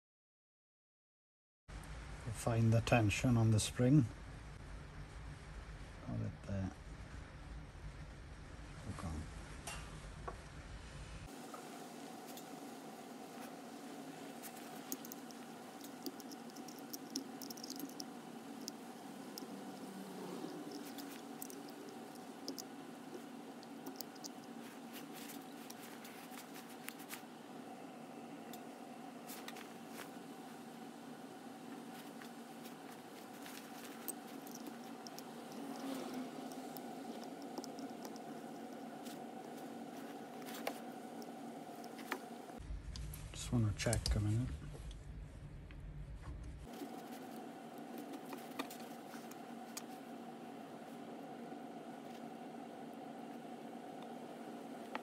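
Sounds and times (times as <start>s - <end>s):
steady low hum: 1.7s - 55.0s.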